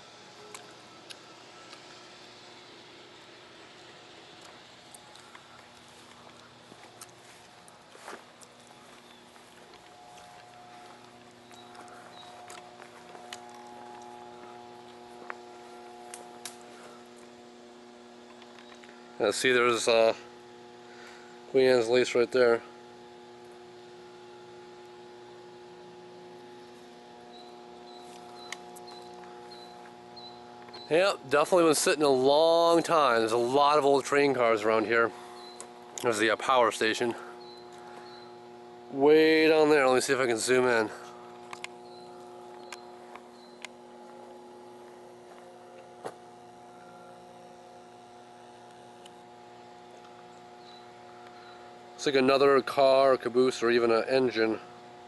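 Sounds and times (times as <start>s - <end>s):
transformer mains hum: 0.0s - 55.0s.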